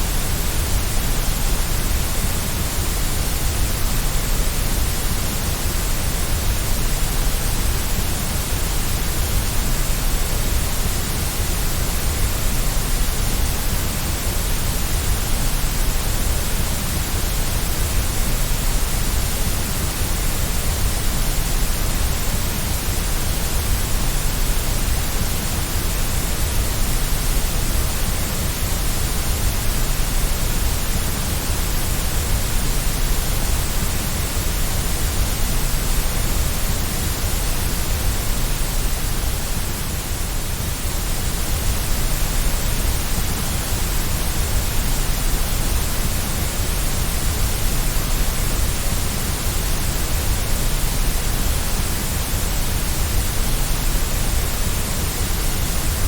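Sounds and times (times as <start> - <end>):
white noise with low rumble: 0.0 - 56.0.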